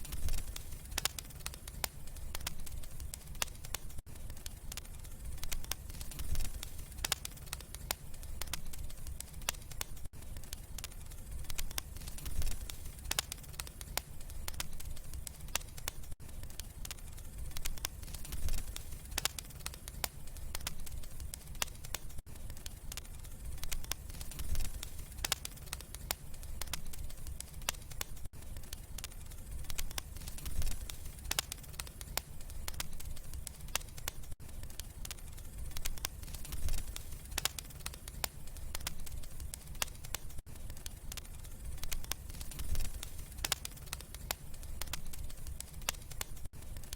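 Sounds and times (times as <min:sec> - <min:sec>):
low rumble of flames: 0:00.0 - 0:46.9
sharp pops of fire: 0:00.0 - 0:46.9
wood fire crackling: 0:00.0 - 0:46.9.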